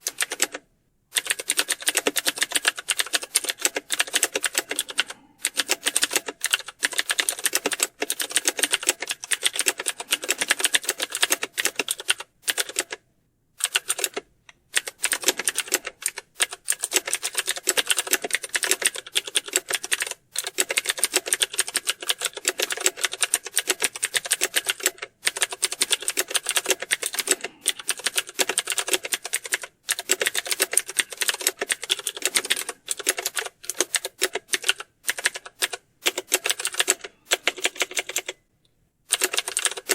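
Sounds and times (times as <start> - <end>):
fast keyboard typing: 0.0 - 13.0, 13.6 - 38.4, 39.1 - 39.9.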